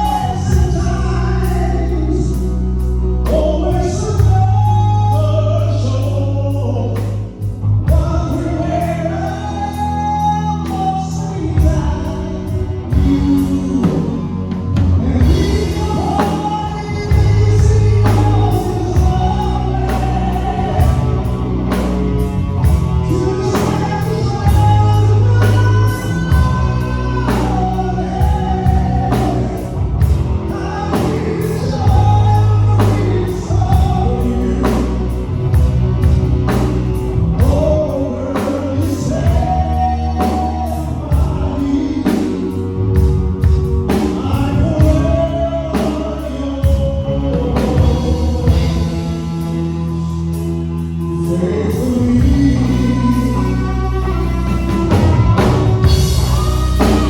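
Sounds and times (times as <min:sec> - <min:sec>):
band playing: 0:00.0 - 0:57.0
singer holding long notes: 0:00.0 - 0:57.0.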